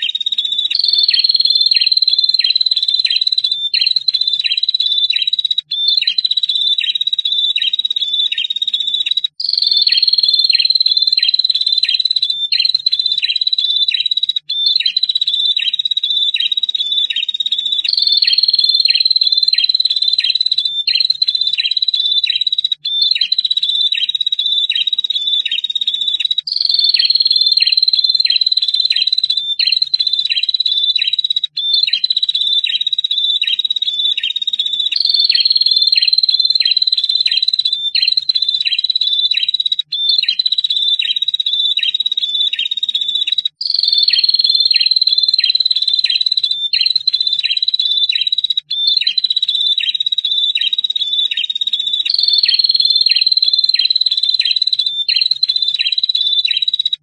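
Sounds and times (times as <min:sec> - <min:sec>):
bird trilling song: 0:00.0 - 0:57.0.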